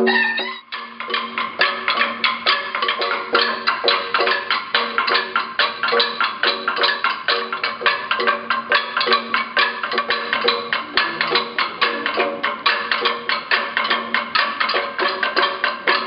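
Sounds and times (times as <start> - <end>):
drumming: 0.0 - 16.0
gongs beaten in interlocking rhythm: 0.0 - 16.0.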